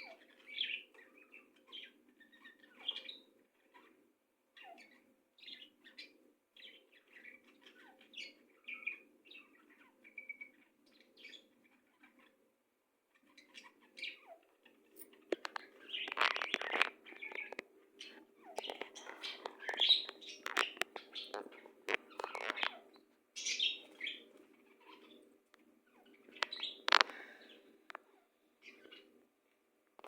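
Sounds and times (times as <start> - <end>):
birds chirping and tweeting: 0.0 - 30.0.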